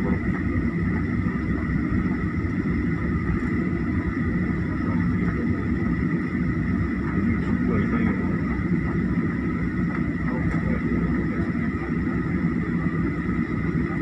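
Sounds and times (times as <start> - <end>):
jet engine whine: 0.0 - 14.0
low rumble: 0.0 - 14.0.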